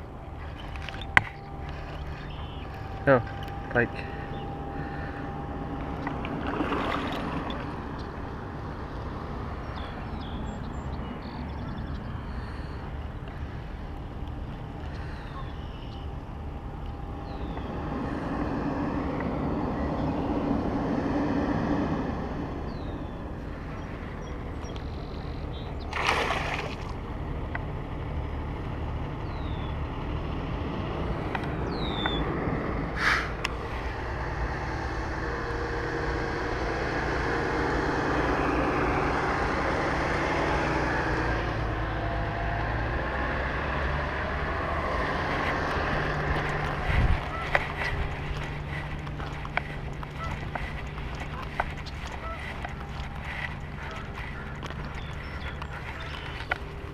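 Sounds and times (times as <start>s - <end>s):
distant traffic: 0.0s - 56.9s
wind rumble: 0.0s - 56.9s.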